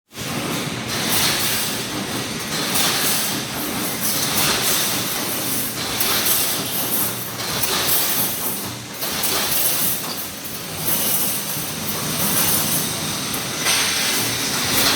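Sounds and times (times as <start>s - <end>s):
welding machine clatter and hiss: 0.1s - 14.9s.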